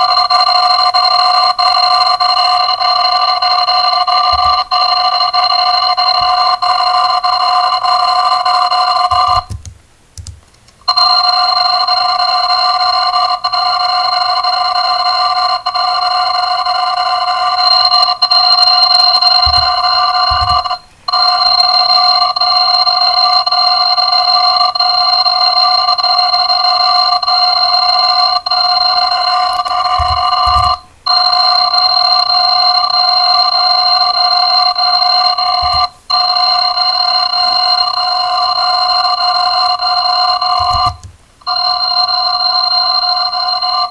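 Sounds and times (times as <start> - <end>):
sped-up alarm ringing buzz: 1.8 - 9.7, 16.2 - 43.9.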